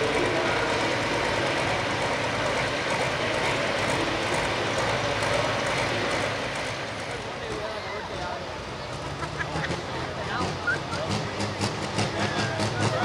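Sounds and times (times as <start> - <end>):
tractor diesel engine running loud: 0.0 - 13.0.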